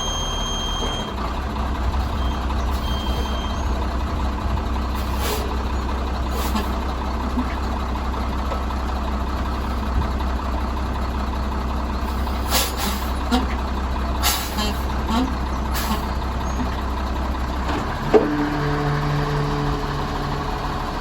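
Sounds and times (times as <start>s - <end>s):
diesel truck engine rumbling: 0.0s - 21.0s.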